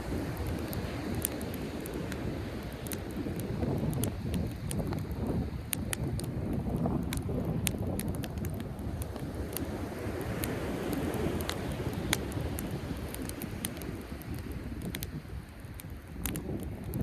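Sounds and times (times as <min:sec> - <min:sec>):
campfire crackling and popping: 0:00.0 - 0:17.0
wind buffeting microphone: 0:00.0 - 0:17.0.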